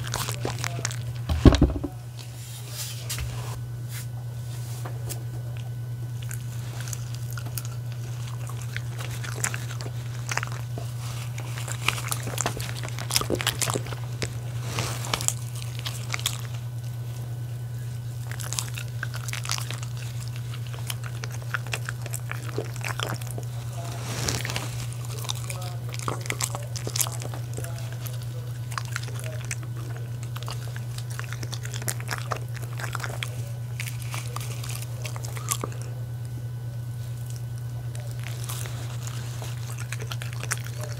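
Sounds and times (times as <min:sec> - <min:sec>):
dog chewing soft food: 0:00.0 - 0:03.5, 0:04.4 - 0:40.9
steady low hum: 0:00.0 - 0:40.9.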